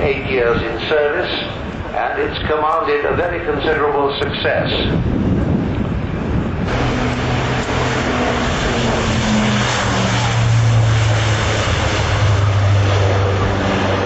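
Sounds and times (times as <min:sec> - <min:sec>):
propeller aircraft drone: 0:00.0 - 0:14.0
rushing noise: 0:00.0 - 0:14.0.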